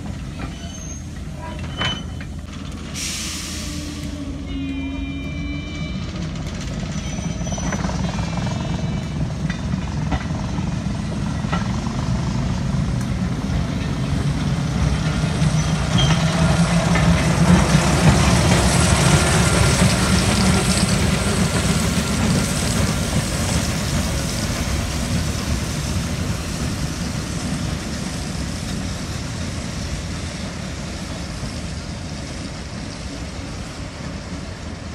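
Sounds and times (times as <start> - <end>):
steam locomotive passing: 0.0 - 34.9
train wheels running on rails: 0.0 - 34.9.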